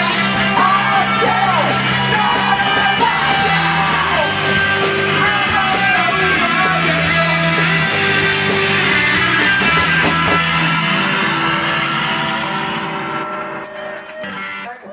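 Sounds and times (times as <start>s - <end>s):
electric bass: 0.0s - 13.6s
drums: 0.0s - 14.9s
electric guitar: 0.0s - 14.9s.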